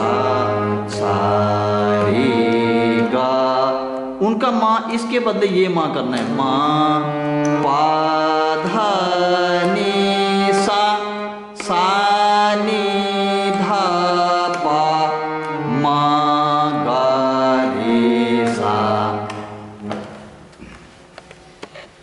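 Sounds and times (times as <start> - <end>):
harmonium playing a scale: 0.0 - 4.2, 5.9 - 20.2.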